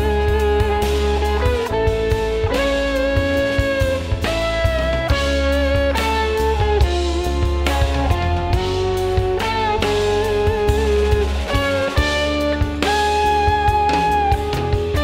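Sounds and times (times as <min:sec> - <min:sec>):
bass: 0:00.0 - 0:15.0
drum kit: 0:00.0 - 0:15.0.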